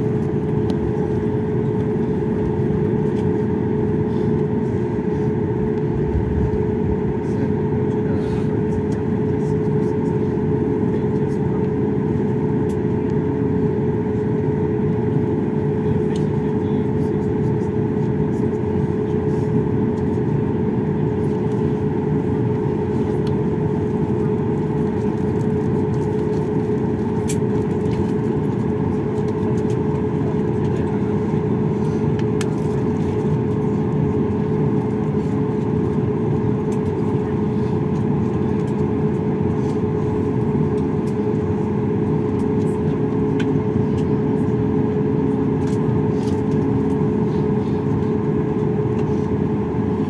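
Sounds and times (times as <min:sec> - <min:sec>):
airliner cabin drone: 0:00.0 - 0:50.0.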